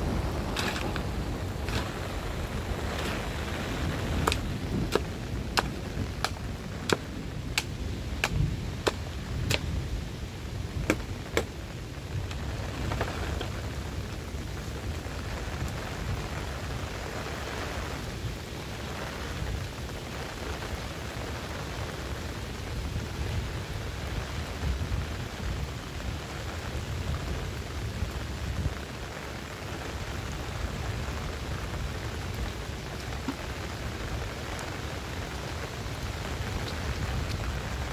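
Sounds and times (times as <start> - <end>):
heavy rain: 0.0 - 37.9.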